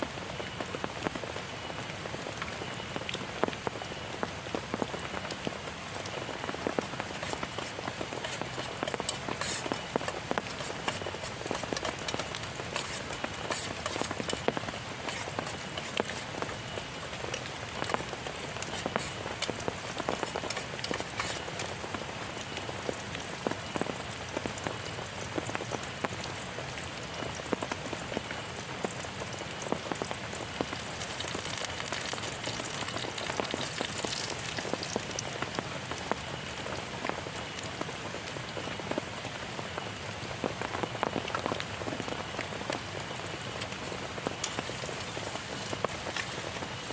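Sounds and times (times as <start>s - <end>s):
heavy rain hiss: 0.0s - 46.9s
raindrops tapping close by: 0.0s - 46.9s.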